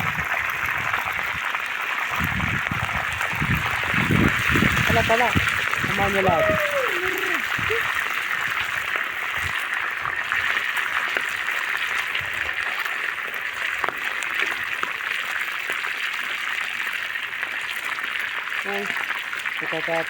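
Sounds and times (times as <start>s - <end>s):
fish deep-frying in hot oil: 0.0s - 20.0s.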